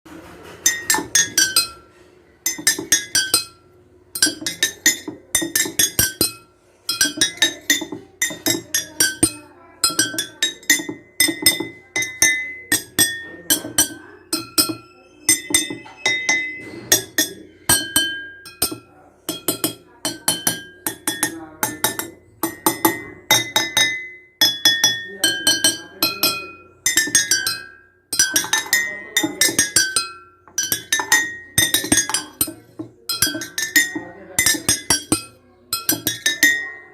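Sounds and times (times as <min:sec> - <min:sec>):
water glasses struck playing a tune: 0:00.4 - 0:36.9.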